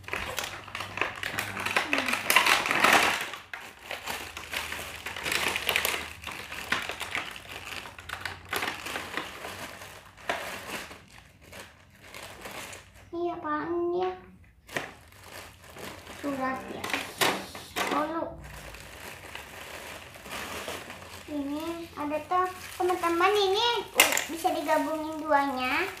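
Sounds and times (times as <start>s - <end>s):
plastic bags crinkling: 0.0s - 13.1s, 14.6s - 26.0s.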